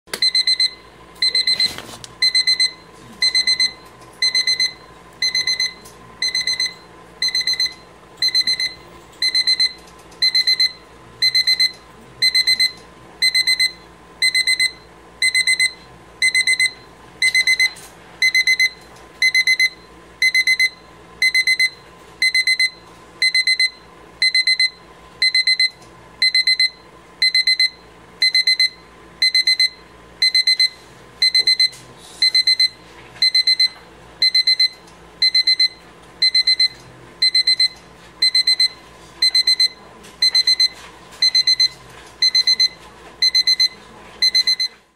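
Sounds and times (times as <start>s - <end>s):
alarm clock beeping: 0.2s - 44.8s.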